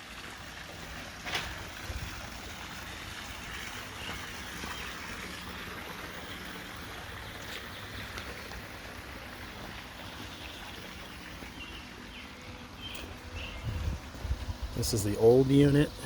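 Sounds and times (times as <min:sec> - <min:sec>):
water rushing in a pool: 0:00.0 - 0:16.0.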